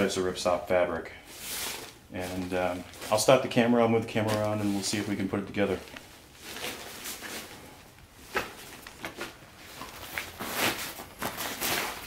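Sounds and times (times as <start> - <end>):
fabric rustling: 1.3 - 12.0.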